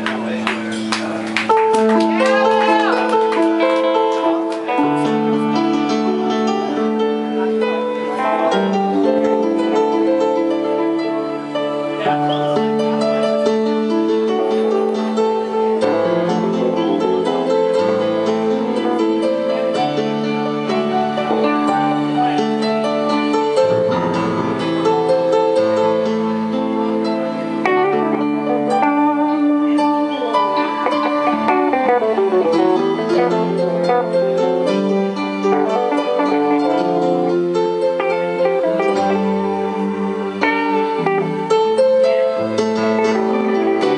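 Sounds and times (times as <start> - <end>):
electric guitar: 0.0 - 43.9
keyboard playing piano chords: 0.0 - 43.9.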